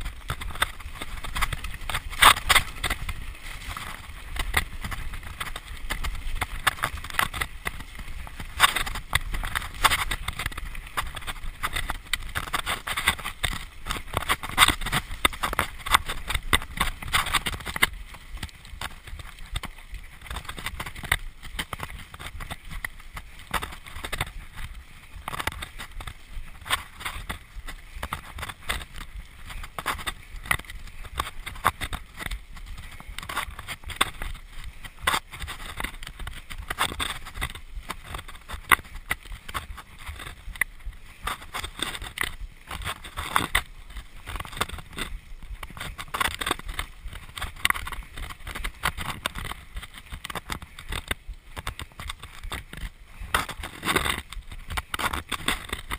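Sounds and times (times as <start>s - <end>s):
bike rattling over stones: 0.0s - 55.9s.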